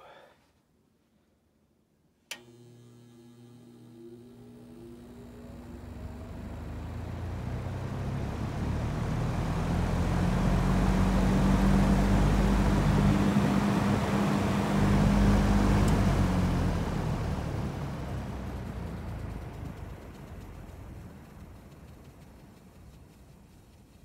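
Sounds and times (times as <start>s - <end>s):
box fan motor hum and air rush: 2.3s - 24.0s.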